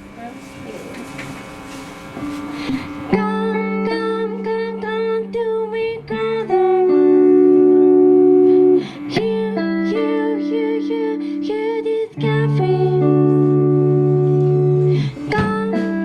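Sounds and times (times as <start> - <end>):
indie pop band playing: 1.4 - 16.0.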